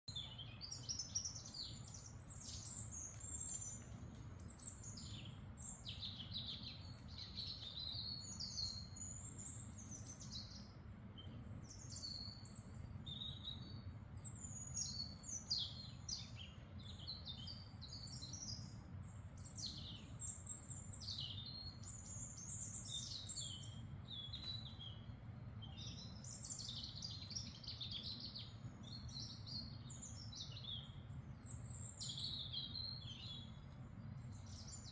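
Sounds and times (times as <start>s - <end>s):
birds chirping and singing: 0.1s - 34.9s.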